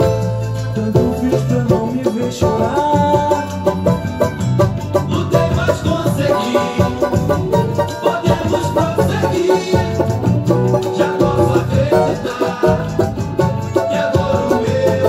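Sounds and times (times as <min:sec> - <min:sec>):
banjo strummed in samba rhythm: 0:00.0 - 0:15.0
bass line: 0:00.0 - 0:15.0.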